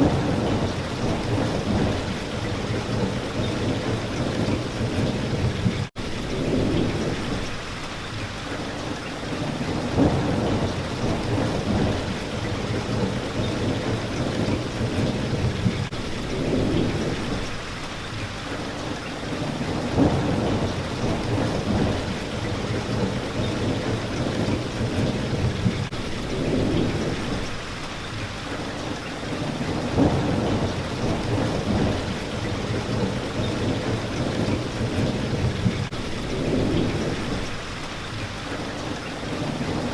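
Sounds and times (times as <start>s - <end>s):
thunder rumbling: 0.0s - 7.7s, 9.3s - 17.7s, 19.3s - 27.8s, 29.2s - 38.1s
rain hitting a window: 0.0s - 39.9s.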